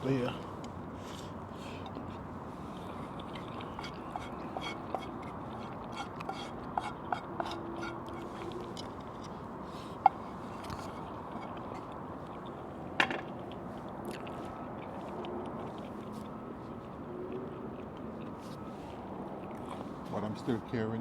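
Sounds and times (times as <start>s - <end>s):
chewing: 0.6s - 20.4s.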